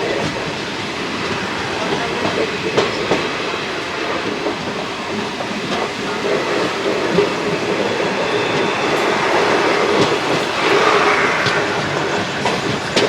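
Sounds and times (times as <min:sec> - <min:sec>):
train rumbling on track: 0:00.0 - 0:13.0
wheels clicking over rail joints: 0:01.2 - 0:13.0.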